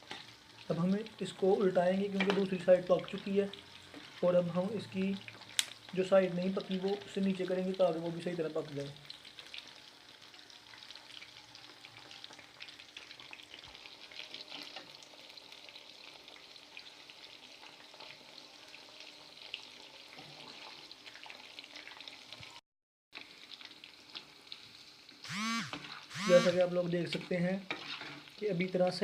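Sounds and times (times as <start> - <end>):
food frying in hot oil: 0.0 - 29.0.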